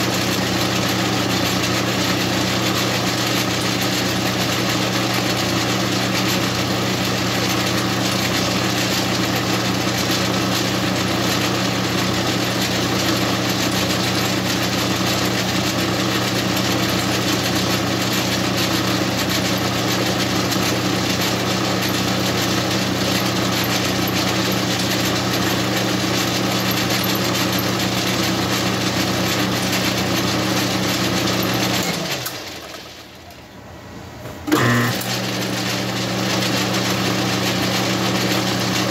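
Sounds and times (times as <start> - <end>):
metal lathe motor humming: 0.0 - 32.7
lathe starting with loud jolt: 0.0 - 33.2, 34.5 - 38.9.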